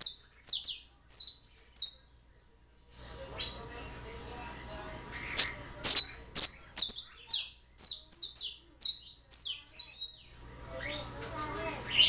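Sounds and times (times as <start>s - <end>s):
canary singing: 0.0s - 2.3s, 3.3s - 4.0s, 5.0s - 12.0s.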